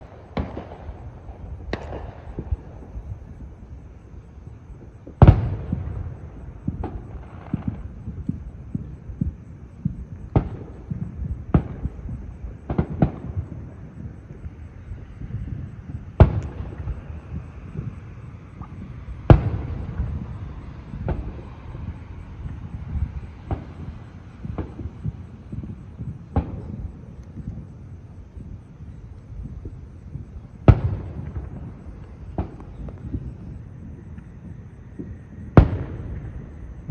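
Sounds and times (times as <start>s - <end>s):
fireworks bursting: 0.0s - 36.9s.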